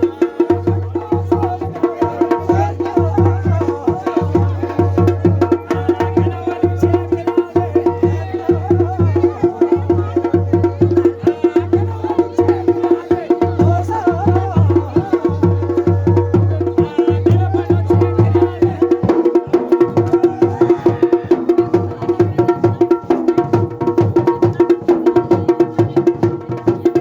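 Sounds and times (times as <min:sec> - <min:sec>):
drums playing fast rhythm: 0:00.0 - 0:27.0.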